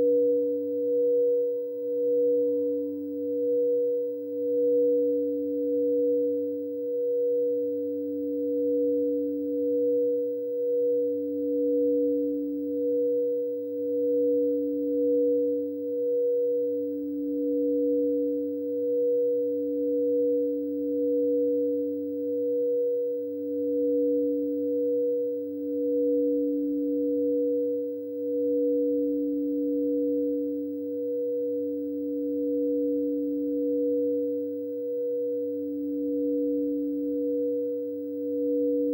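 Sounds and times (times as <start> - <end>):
singing bowls ringing: 0.0 - 38.9.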